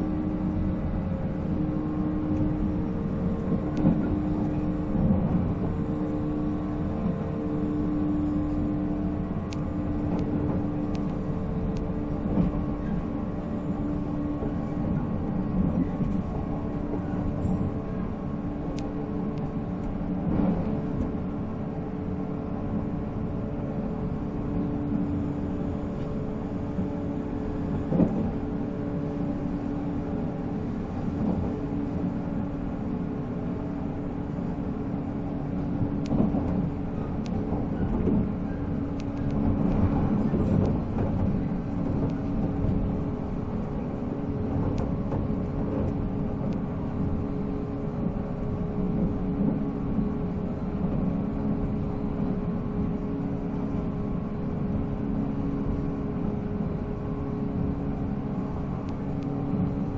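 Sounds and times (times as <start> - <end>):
train motors humming: 0.0 - 59.9
train wheels rumbling on rails: 0.0 - 59.9.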